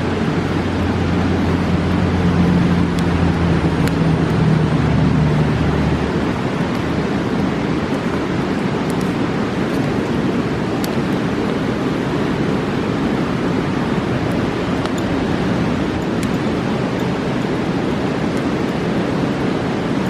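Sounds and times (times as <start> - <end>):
low engine drone: 0.0 - 20.0
river rushing: 0.0 - 20.0
campfire pops: 0.5 - 4.5, 5.2 - 12.2, 13.3 - 19.4.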